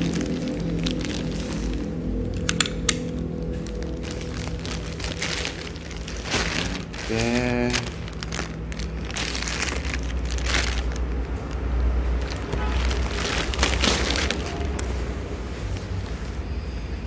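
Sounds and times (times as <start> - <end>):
low rumble: 0.0 - 15.6
plastic bag rustling: 0.0 - 16.5.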